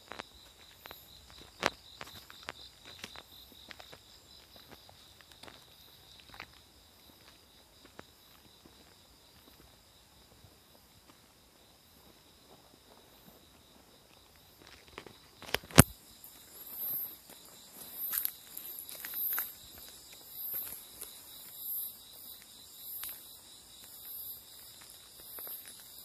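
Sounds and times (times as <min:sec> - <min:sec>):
footsteps on ground: 0:00.0 - 0:09.9, 0:12.0 - 0:26.0
crickets trilling: 0:00.0 - 0:26.0.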